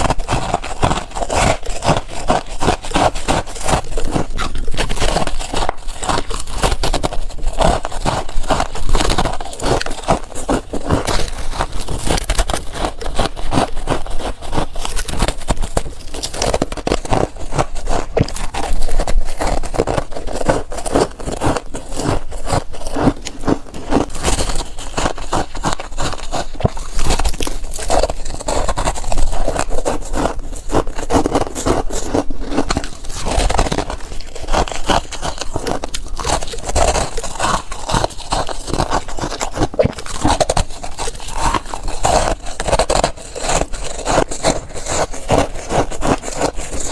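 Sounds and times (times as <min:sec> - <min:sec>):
chewing crunchy frost: 0:00.0 - 0:46.9.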